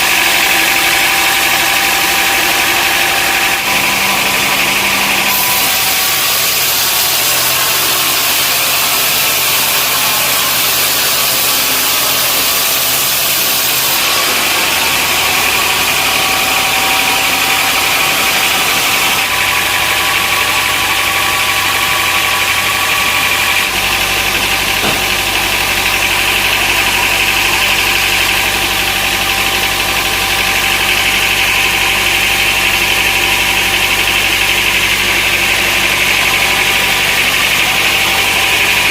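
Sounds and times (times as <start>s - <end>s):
sawmill machinery whining hum: 0.0s - 38.9s.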